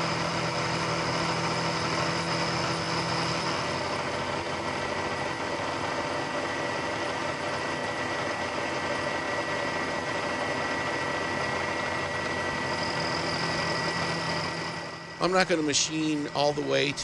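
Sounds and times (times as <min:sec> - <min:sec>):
milling machine cutting metal: 0:00.0 - 0:17.0
motor and spindle hum: 0:00.0 - 0:17.0.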